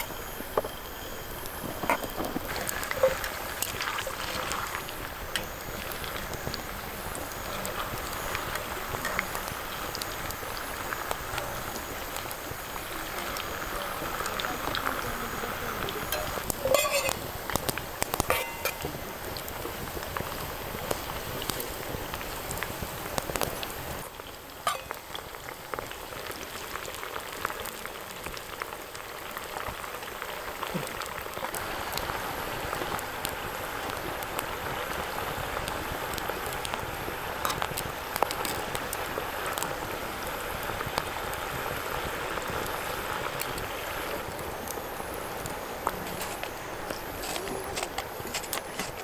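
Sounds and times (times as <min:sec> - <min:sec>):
food bubbling in a pot: 0:00.0 - 0:49.0.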